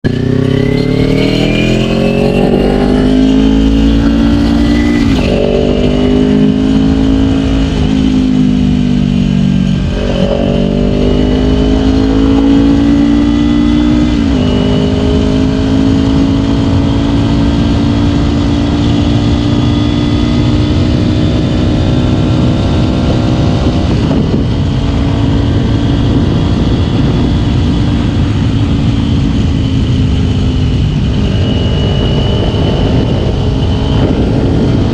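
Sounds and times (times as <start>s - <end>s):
motorcycle engine accelerating: 0.0s - 34.9s
wind noise on microphone: 0.0s - 34.9s.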